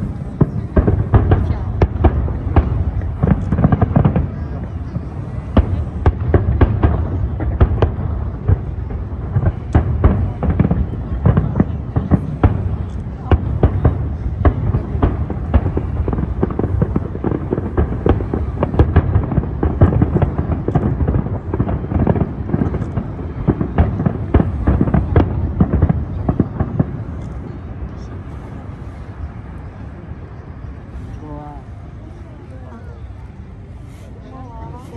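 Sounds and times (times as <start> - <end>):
fireworks bangs: 0.0 - 32.2.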